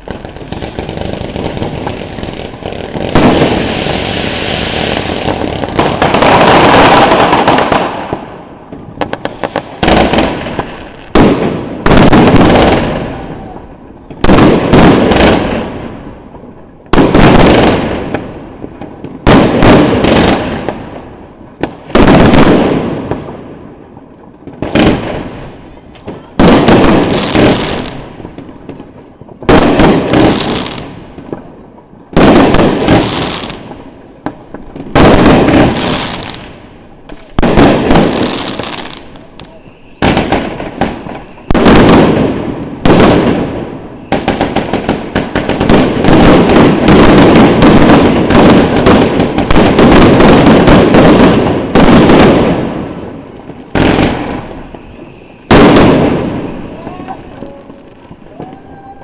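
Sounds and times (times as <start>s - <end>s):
firework bangs with crackle: 0.0s - 59.0s.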